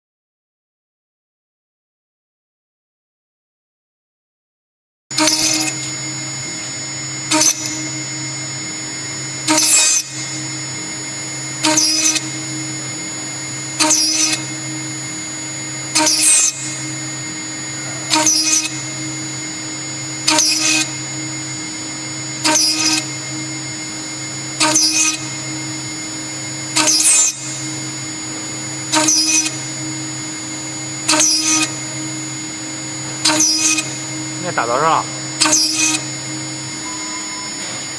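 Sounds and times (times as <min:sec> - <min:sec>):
router spindle whine: 0:05.1 - 0:37.9
drill bit cutting metal: 0:05.2 - 0:37.9.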